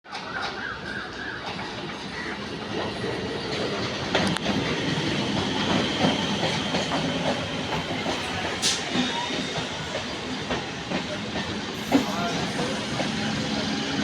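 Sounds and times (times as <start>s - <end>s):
train wheels clattering over rails: 0.1s - 14.0s.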